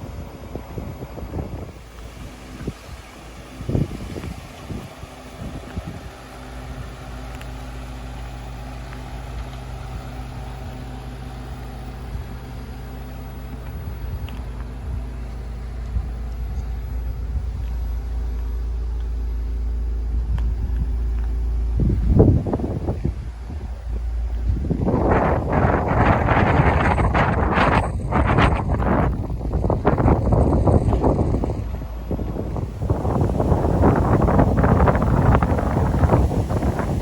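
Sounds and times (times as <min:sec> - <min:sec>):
wind on microphone: 0:00.0 - 0:06.2, 0:13.4 - 0:37.0
car engine droning: 0:00.0 - 0:37.0.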